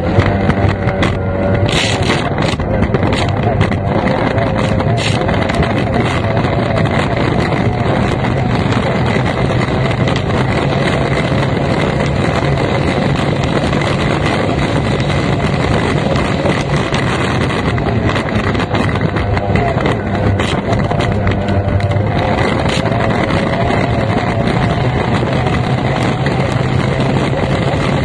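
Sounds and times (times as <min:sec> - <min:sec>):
powerboat engine running hard: 0:00.0 - 0:28.0
wind buffeting microphone: 0:00.0 - 0:28.0.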